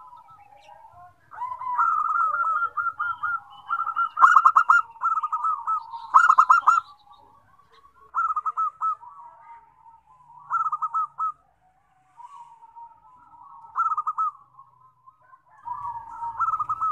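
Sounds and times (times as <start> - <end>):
doves cooing: 0.0 - 16.9.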